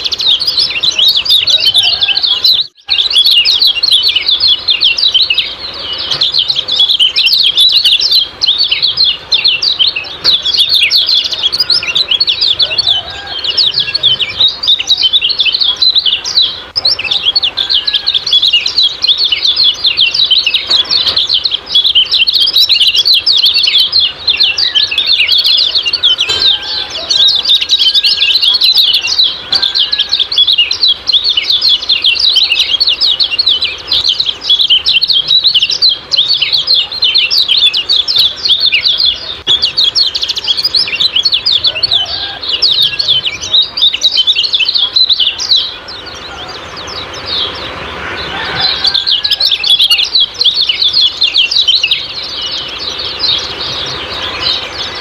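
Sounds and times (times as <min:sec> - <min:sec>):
songbird chattering song: 0:00.0 - 0:55.0.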